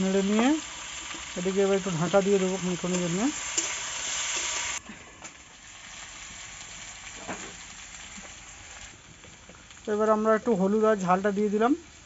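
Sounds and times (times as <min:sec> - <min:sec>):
potato wedges sizzling in oil: 0:00.0 - 0:12.0.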